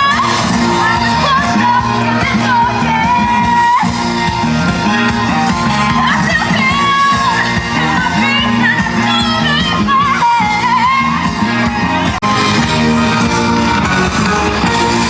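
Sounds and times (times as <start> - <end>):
pop-rock song with singer: 0.0 - 15.0.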